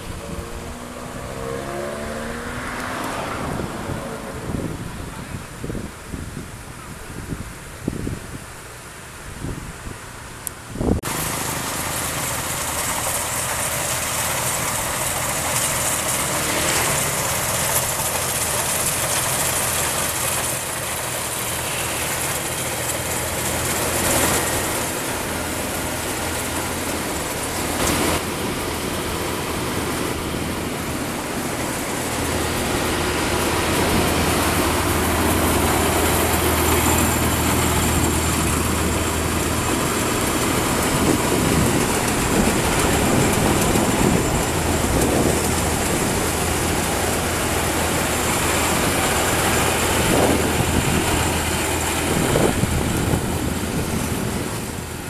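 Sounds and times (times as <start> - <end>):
combine harvester running: 0.0 - 6.2, 10.4 - 55.0.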